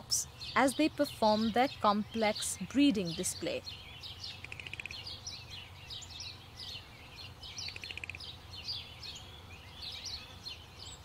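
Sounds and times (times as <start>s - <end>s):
small birds chirping: 0.0s - 11.0s
bird trill: 0.3s - 11.0s.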